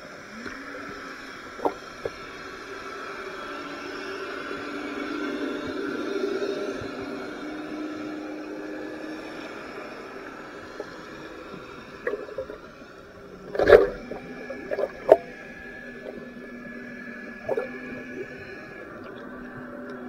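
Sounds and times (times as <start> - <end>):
underwater hum: 0.0 - 20.0.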